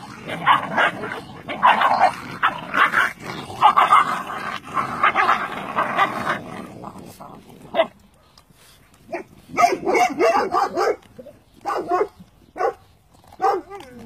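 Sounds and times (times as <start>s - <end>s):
puppies yipping and barking: 0.0s - 6.7s, 7.5s - 14.0s.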